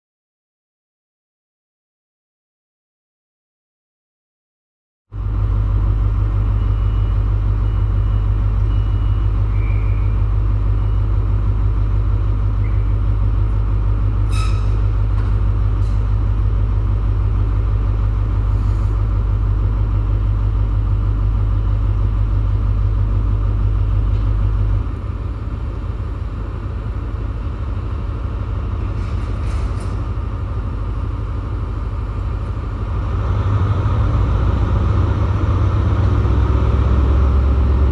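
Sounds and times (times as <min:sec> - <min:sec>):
diesel engine idling: 0:05.1 - 0:37.9.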